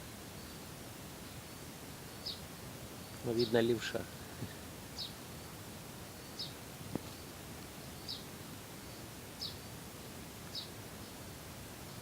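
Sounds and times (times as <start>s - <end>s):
outdoor ambience hiss: 0.0s - 12.0s.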